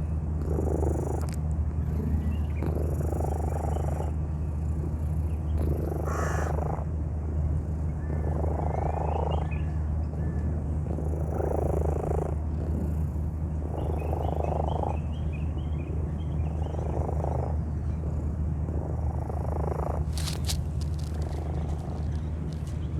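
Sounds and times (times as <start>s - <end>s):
steady low hum: 0.0s - 22.9s
cat laboured breathing: 0.2s - 9.1s, 10.0s - 14.7s, 15.9s - 22.9s.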